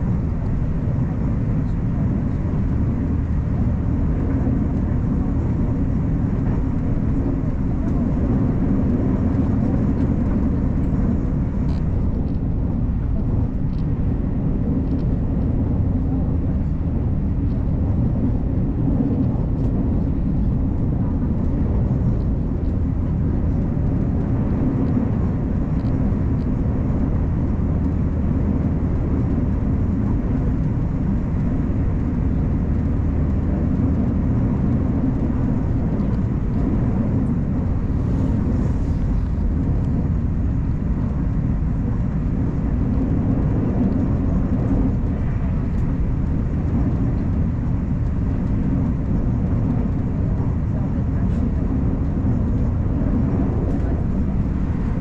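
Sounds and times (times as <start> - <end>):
electric train rumbling inside carriage: 0.0 - 55.0.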